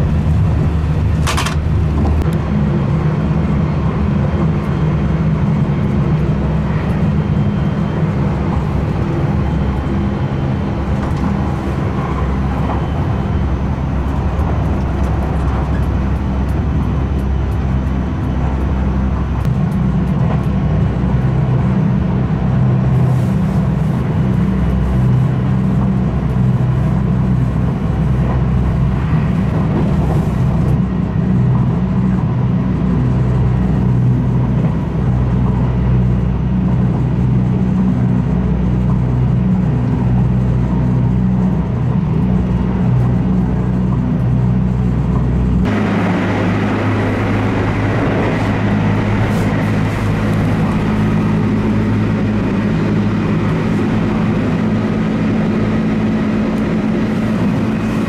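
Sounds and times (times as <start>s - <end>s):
train rumbling at speed: 0.0s - 58.0s.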